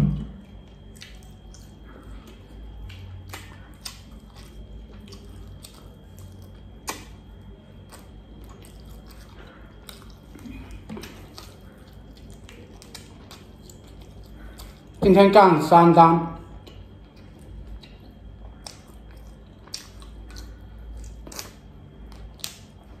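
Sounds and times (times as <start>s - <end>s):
low steady hum: 0.0s - 23.0s
wet chewing and lip-smacking: 0.4s - 15.0s, 16.5s - 23.0s.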